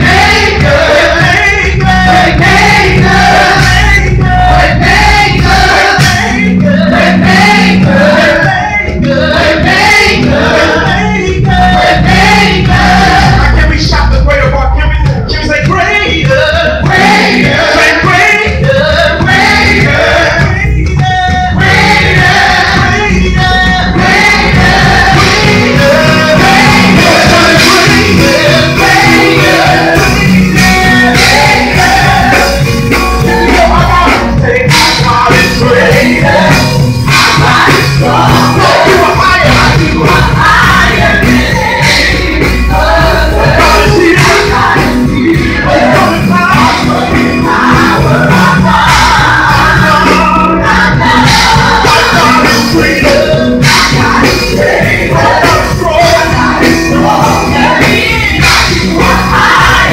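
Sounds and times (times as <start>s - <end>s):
choir singing gospel: 0.0s - 59.9s
keyboard: 0.0s - 59.9s.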